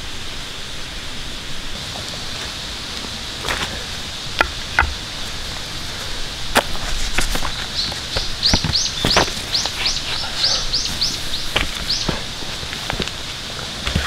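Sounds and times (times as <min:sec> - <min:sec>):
footsteps on dry leaves: 0:01.7 - 0:14.0.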